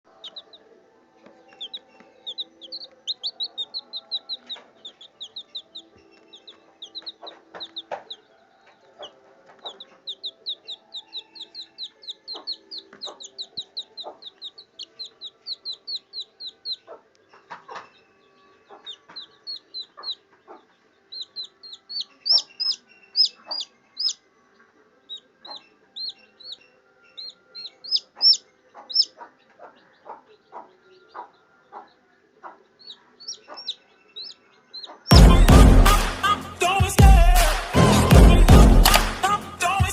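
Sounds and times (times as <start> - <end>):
chicks peeping: 0.1 - 37.6.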